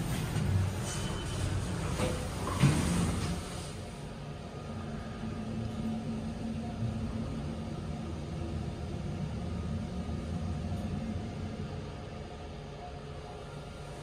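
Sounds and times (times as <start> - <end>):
elevator humming: 0.0 - 14.0.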